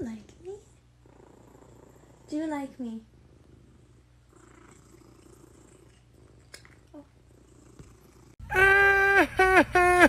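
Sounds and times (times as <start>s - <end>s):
cat purring softly: 0.3s - 8.4s.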